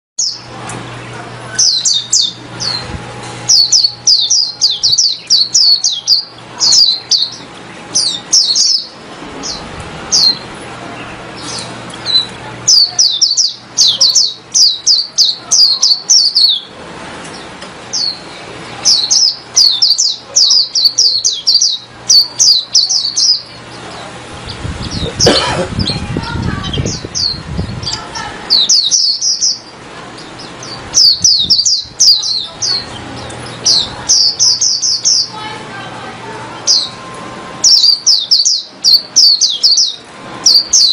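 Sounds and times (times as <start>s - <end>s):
bird twittering: 1.5s - 35.6s, 37.6s - 40.9s.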